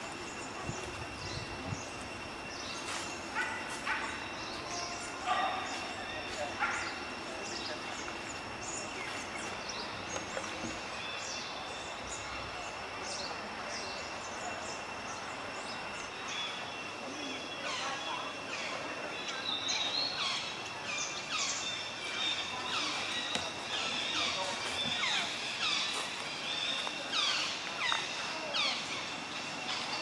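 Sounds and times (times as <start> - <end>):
birds chirping: 0.0 - 30.0
high-pitched insect whine: 0.0 - 30.0.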